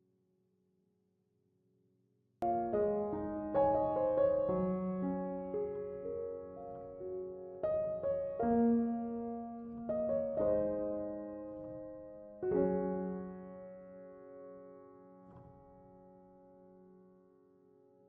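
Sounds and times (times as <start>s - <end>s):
slow piano chords: 2.4s - 18.0s.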